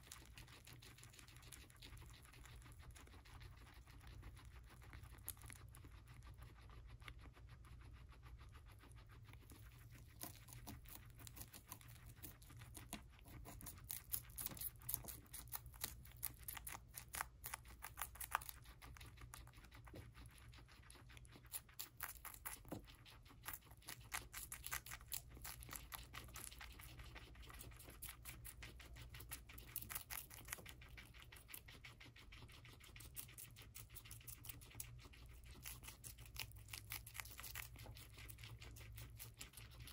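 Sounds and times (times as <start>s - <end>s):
guinea pigs crunching celery: 0.0s - 39.9s.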